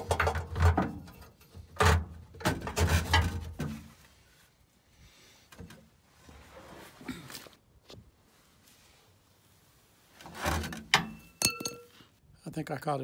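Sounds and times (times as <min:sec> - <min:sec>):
faint background noise: 0:00.0 - 0:13.0.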